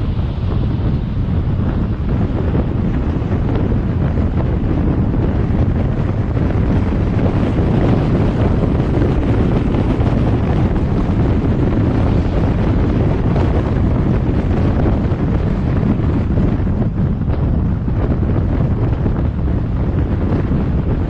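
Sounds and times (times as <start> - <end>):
vehicle road and engine noise: 0.0 - 21.0
wind rush on microphone: 0.0 - 21.0.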